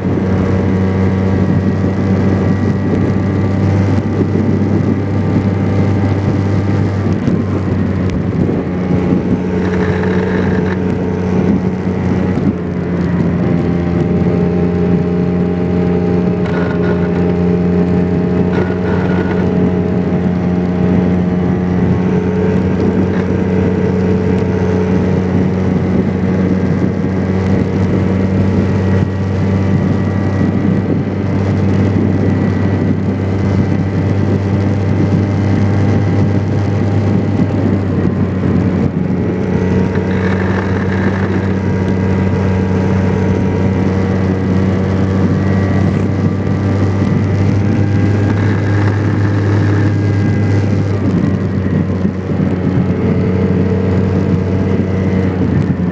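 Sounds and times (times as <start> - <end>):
scooter engine running: 0.0 - 55.9.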